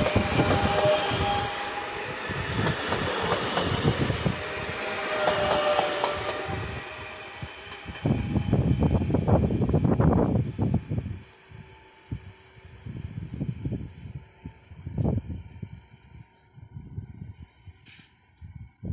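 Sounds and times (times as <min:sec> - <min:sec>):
loud train rumble: 0:00.0 - 0:18.9
train rumbling past: 0:00.0 - 0:18.9.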